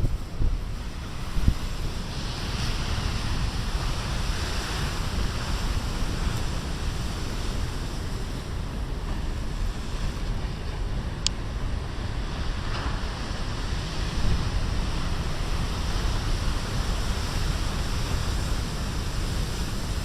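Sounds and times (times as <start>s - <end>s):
surf crashing on shore: 0.0s - 20.0s
wind buffeting microphone: 0.0s - 20.0s.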